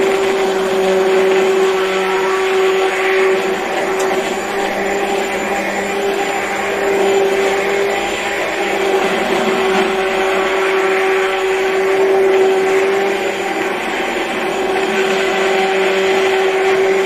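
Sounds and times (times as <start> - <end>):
immersion blender whirring: 0.0 - 17.0.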